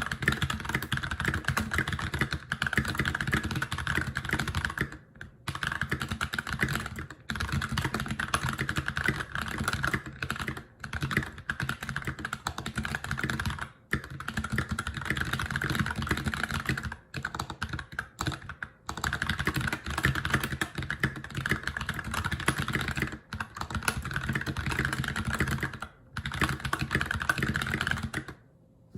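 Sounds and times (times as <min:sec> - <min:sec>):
mechanical keyboard typing: 0:00.0 - 0:28.4.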